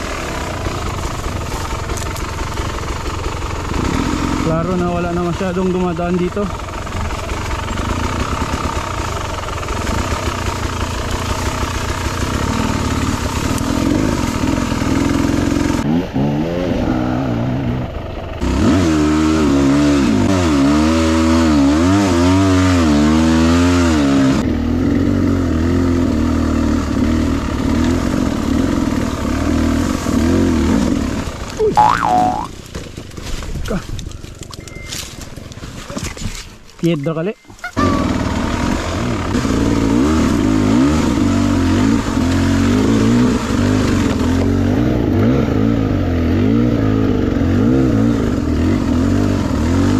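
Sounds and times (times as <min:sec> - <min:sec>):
motorcycle engine revving: 0:00.0 - 0:32.6, 0:37.8 - 0:49.9.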